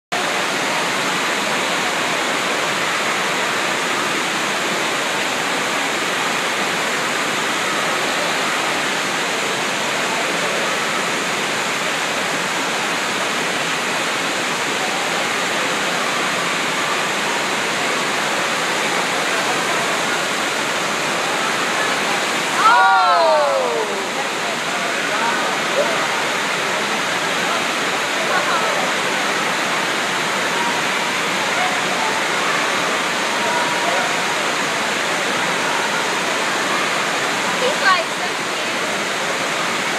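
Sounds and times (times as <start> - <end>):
rushing water: 0.1 - 39.9.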